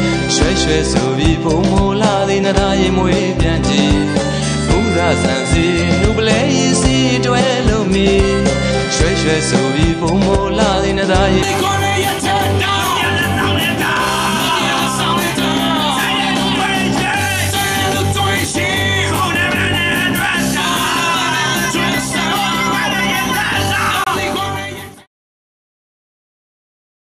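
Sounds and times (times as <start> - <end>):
rock song with singing: 0.0 - 25.1.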